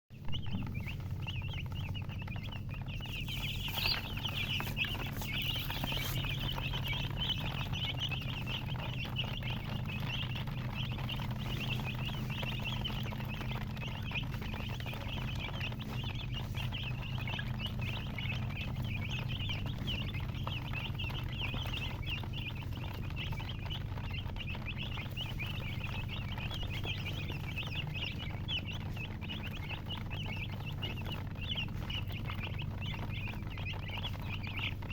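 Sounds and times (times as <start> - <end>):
baby chicks peeping: 0.1 - 34.9
steady low hum: 0.1 - 34.9.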